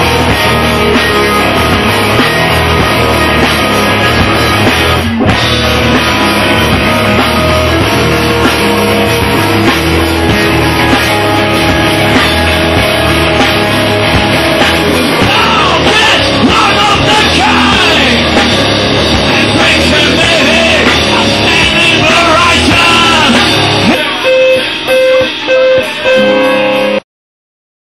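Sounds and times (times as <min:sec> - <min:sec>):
rock music with singing: 0:00.0 - 0:27.0.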